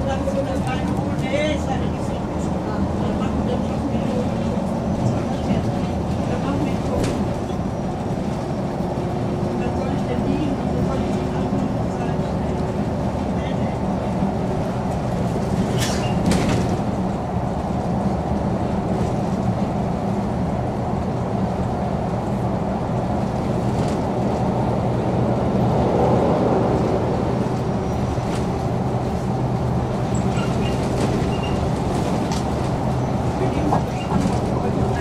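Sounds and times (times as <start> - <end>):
bus diesel drone: 0.0 - 35.0.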